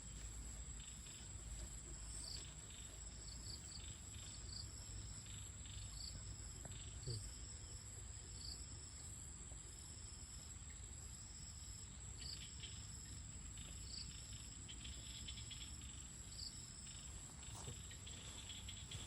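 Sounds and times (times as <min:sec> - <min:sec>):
lower insect call: 0:00.0 - 0:19.0
high-pitched insect trill: 0:00.1 - 0:19.0.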